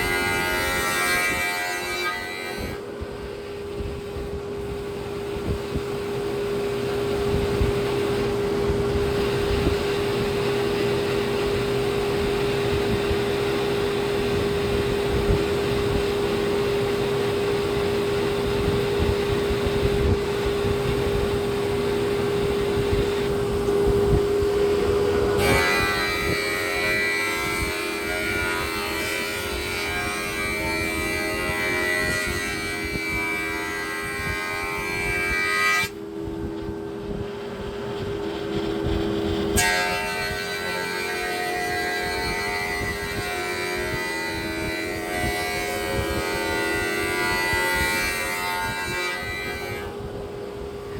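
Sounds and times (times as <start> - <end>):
planer humming and rumbling: 0.0 - 50.9.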